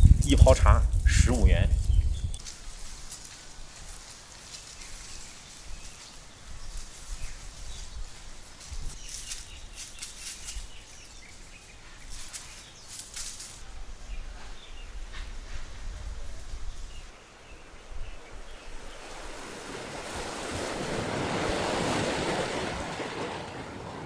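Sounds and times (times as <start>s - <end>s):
wind rumble on microphone: 0.0s - 2.5s, 4.9s - 12.2s, 13.6s - 24.0s
high hissing rustles: 0.1s - 22.2s.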